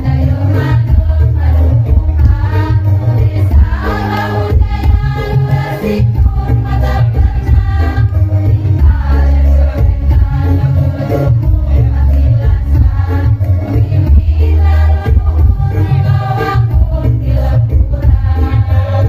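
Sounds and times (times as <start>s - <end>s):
electronic keyboard with bass line: 0.0s - 19.0s
women's choir singing: 0.0s - 19.0s.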